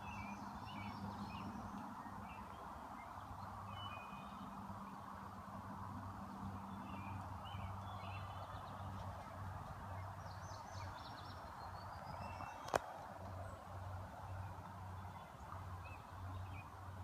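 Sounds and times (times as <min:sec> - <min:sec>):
small birds chirping: 0:00.0 - 0:05.2, 0:06.2 - 0:17.0.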